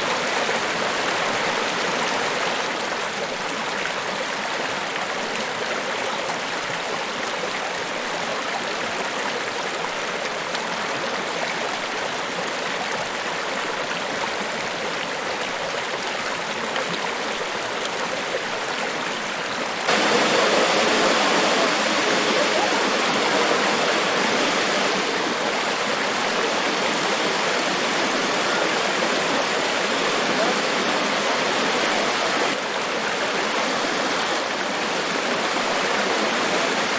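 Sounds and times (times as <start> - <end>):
rush of falling water: 0.0 - 36.9.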